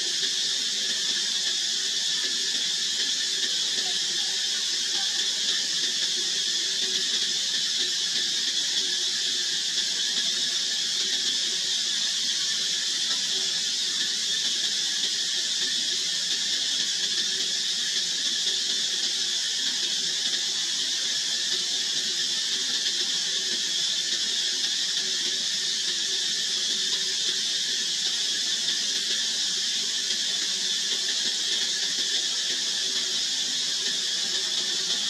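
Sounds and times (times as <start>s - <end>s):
steady high-pitched hiss: 0.0s - 35.0s.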